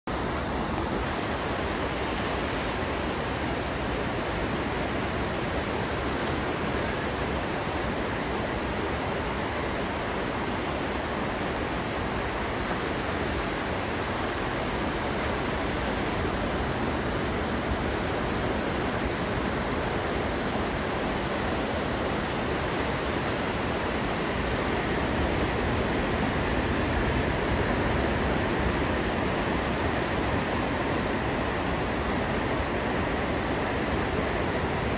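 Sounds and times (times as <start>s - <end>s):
ocean surf breaking: 0.2s - 34.9s.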